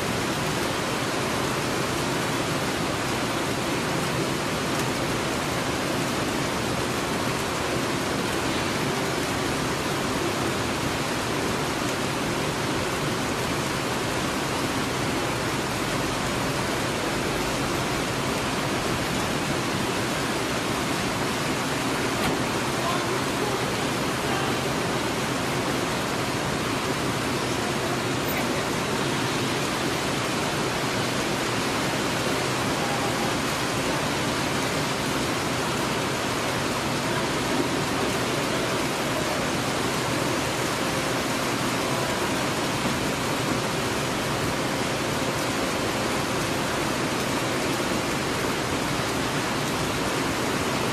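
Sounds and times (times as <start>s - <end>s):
heavy rain hissing: 0.0s - 50.9s.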